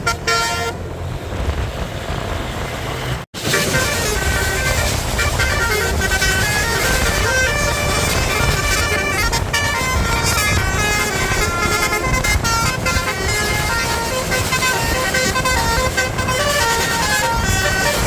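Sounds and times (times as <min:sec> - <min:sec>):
bus musical horn melody: 0:00.0 - 0:01.0, 0:03.4 - 0:18.0
low traffic rumble: 0:00.0 - 0:18.0.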